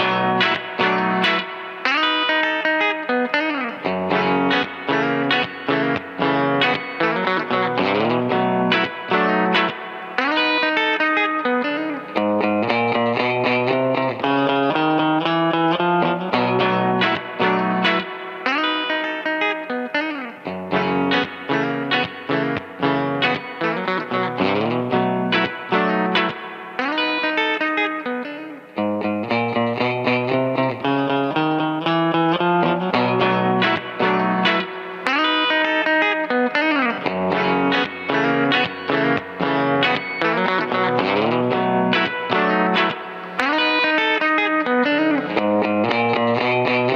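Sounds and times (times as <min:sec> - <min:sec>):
electric guitar country melody: 0:00.0 - 0:46.9.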